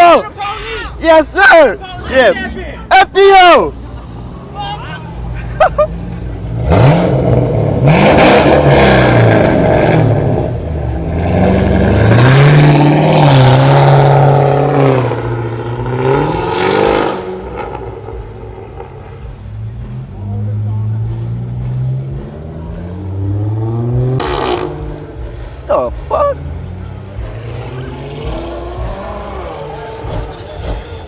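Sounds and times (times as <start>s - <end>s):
car engine revving: 3.2s - 31.0s.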